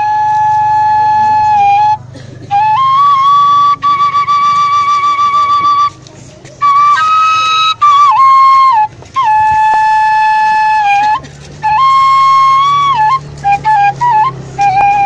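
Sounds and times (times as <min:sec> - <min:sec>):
bamboo flute melody: 0:00.0 - 0:15.0.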